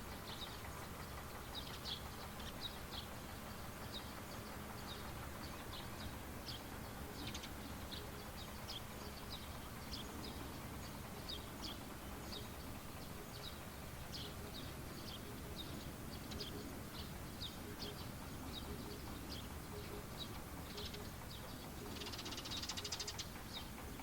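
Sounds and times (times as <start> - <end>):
low steady background noise: 0.0 - 24.0
small birds chirping: 0.0 - 24.0.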